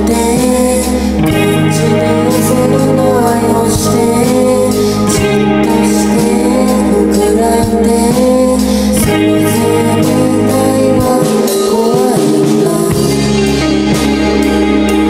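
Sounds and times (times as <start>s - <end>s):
bass: 0.0s - 15.0s
guitar: 0.0s - 15.0s.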